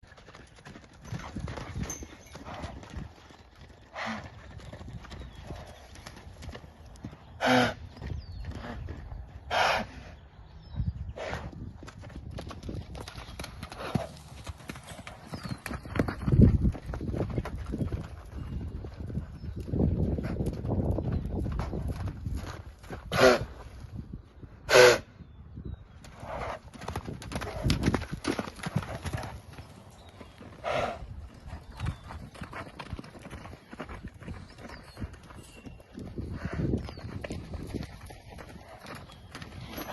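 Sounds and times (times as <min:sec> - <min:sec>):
horses' hooves clip-clopping: 0:00.0 - 0:09.7, 0:11.7 - 0:24.0, 0:26.0 - 0:39.9.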